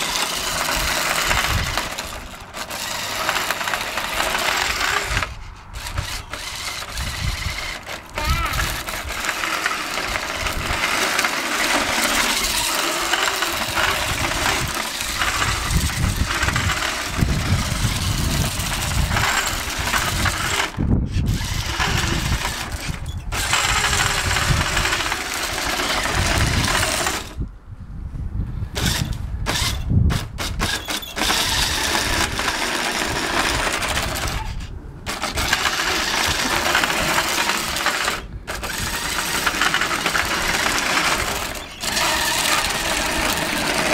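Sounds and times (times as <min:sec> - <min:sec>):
toy car electric motor whirring: 0:00.0 - 0:27.5, 0:28.8 - 0:43.9.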